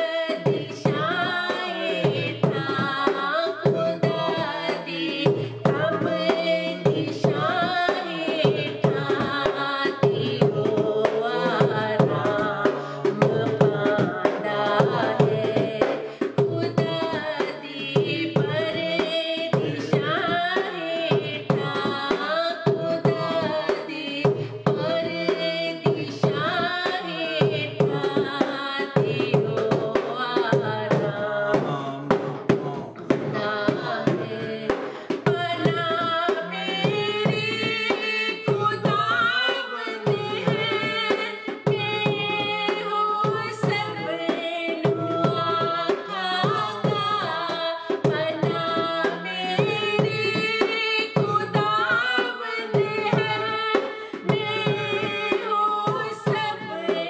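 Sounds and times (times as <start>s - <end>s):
hand drum rhythm: 0.0s - 57.0s.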